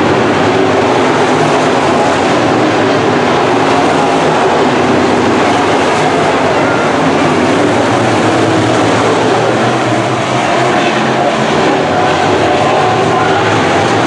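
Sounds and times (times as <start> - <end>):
race car engines running hard: 0.0 - 14.0.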